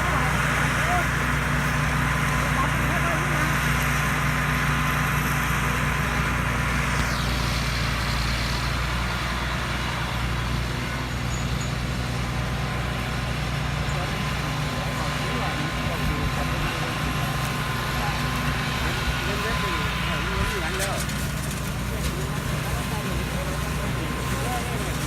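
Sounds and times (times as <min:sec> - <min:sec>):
combine harvester running: 0:00.0 - 0:25.0.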